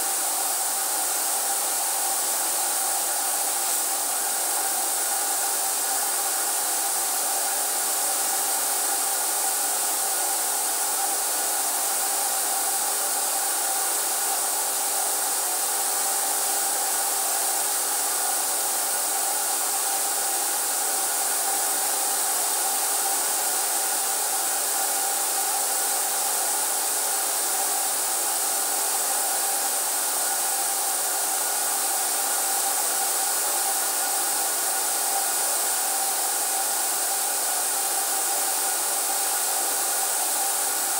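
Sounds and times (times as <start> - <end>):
hiss of air: 0.0 - 40.9.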